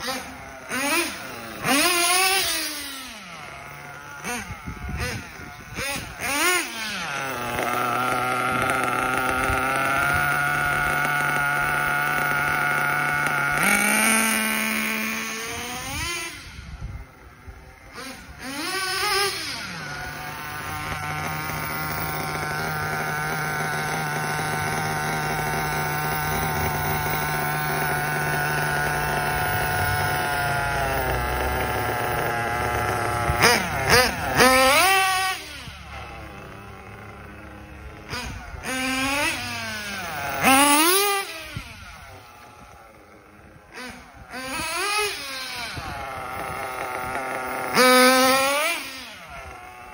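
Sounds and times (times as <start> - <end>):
small nitro engine revving: 0.0 - 49.9.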